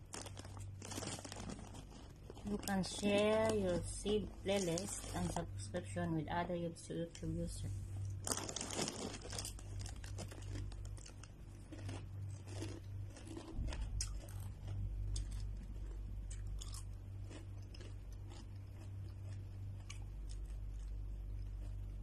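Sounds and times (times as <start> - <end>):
chewing crunchy chips: 0.0 - 5.7, 7.9 - 22.0
steady low hum: 0.0 - 22.0.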